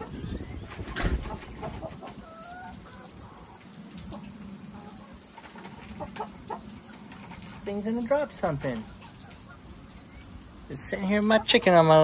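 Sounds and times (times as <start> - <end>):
hen clucking: 0.0 - 7.7, 8.4 - 12.0.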